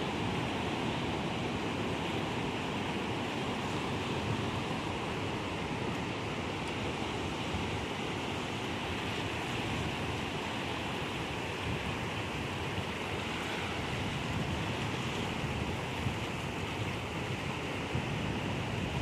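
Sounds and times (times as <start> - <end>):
surf breaking on rocky shore: 0.0 - 19.0.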